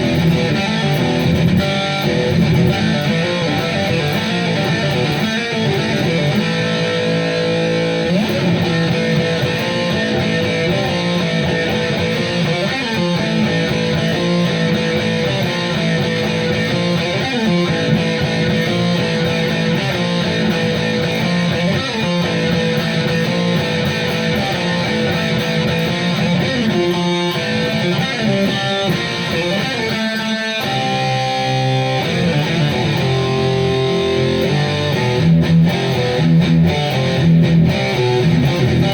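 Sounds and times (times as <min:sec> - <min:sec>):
electric guitar heavy metal riffs: 0:00.0 - 0:38.9.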